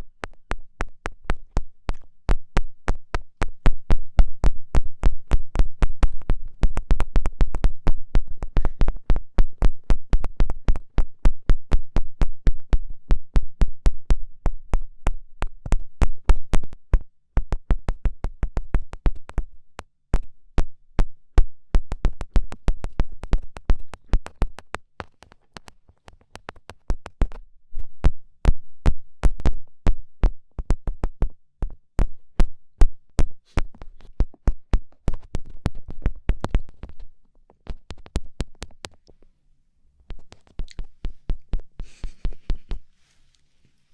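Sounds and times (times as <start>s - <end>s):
sharp fingertip taps: 0.0s - 39.2s, 40.1s - 42.9s.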